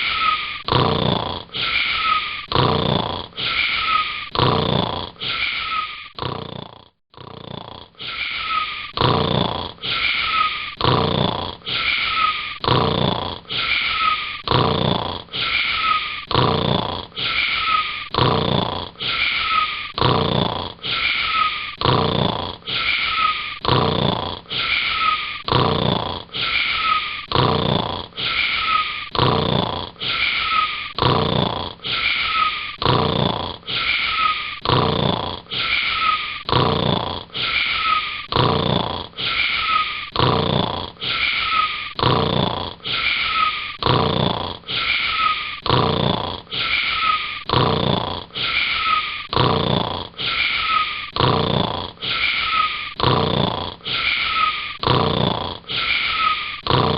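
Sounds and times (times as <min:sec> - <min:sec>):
whistling snores: 0:00.0 - 0:56.9.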